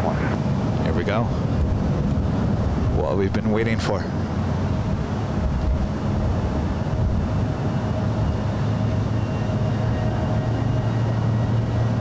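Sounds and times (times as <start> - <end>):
distant jet engines humming: 0.0 - 12.0.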